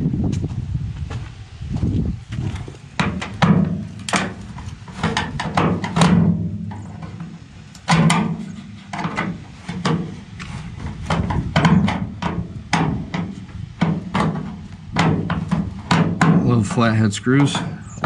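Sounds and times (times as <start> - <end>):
metal downspout knocking and rattling: 2.4 - 18.0.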